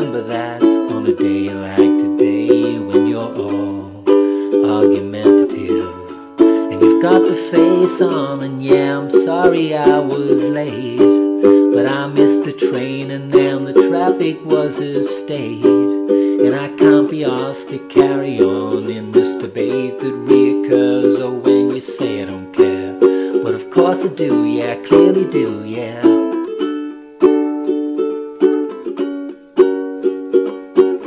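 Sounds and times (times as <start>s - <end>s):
ukulele strumming: 0.0s - 31.0s.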